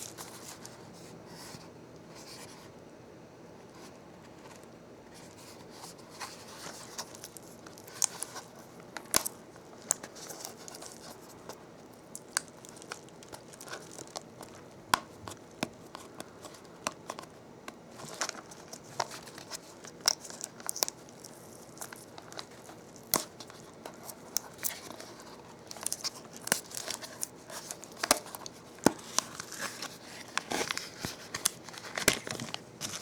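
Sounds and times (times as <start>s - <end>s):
plastic crinkling and tearing: 6.0s - 17.3s, 17.9s - 33.0s.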